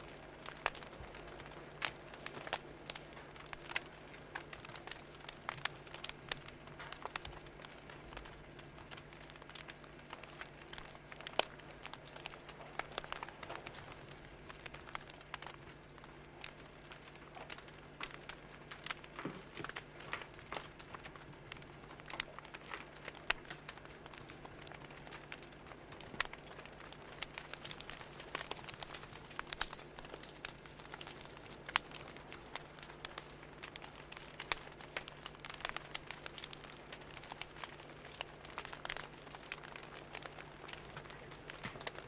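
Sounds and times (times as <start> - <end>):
fire crackling and popping: 0.0 - 42.0
low steady hum: 0.0 - 42.0.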